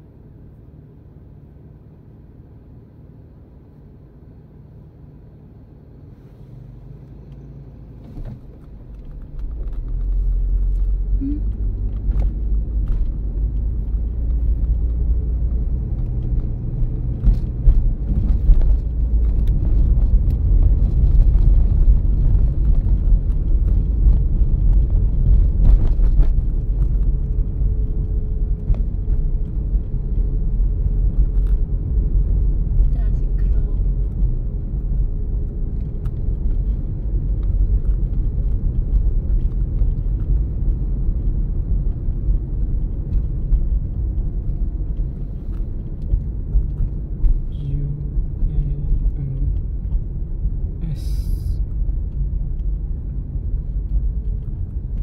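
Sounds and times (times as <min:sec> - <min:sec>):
car idle hum: 0:00.0 - 0:55.0
engine and tyres rumbling: 0:00.0 - 0:55.0.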